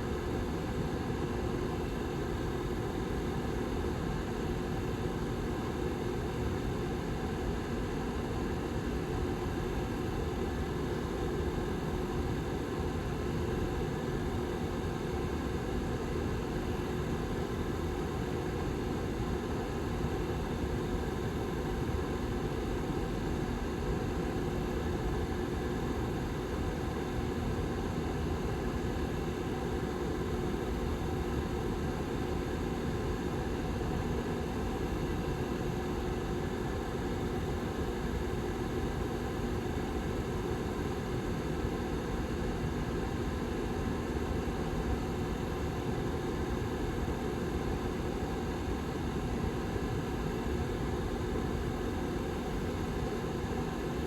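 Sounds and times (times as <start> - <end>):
faint motor hum: 0.0 - 54.0.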